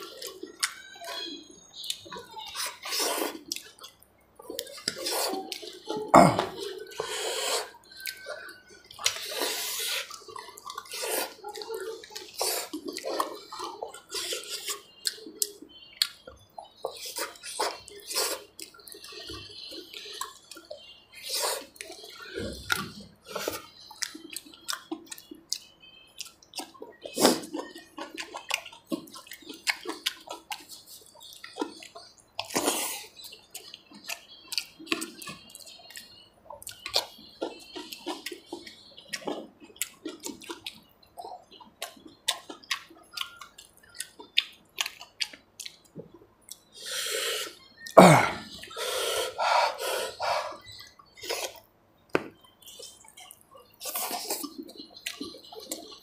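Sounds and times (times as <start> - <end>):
food squishing between fingers: 0.0 - 56.0
wet chewing and lip-smacking: 0.0 - 56.0.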